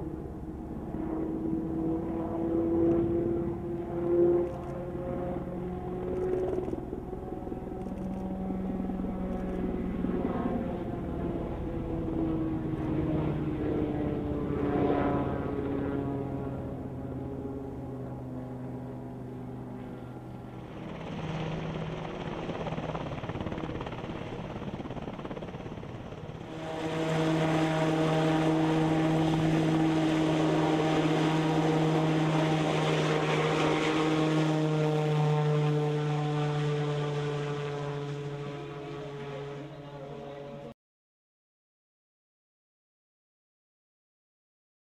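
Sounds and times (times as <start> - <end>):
helicopter droning: 0.0 - 40.8.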